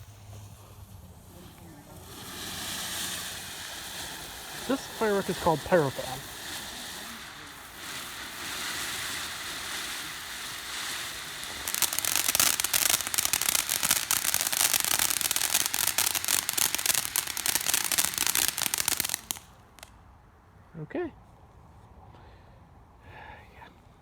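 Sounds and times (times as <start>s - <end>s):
firework hissing: 0.0s - 20.0s
firework crackling: 0.0s - 20.2s.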